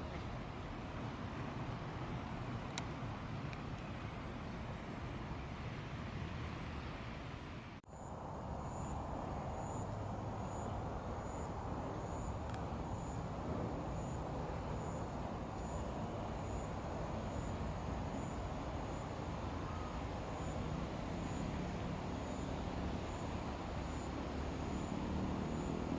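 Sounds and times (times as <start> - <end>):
distant traffic rumble: 0.0 - 25.9.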